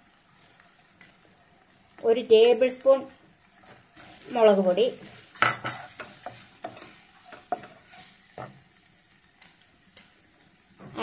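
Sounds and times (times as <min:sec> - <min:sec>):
faint sizzle: 0:00.0 - 0:11.0
spatula stirring onions in a pan: 0:00.0 - 0:11.0.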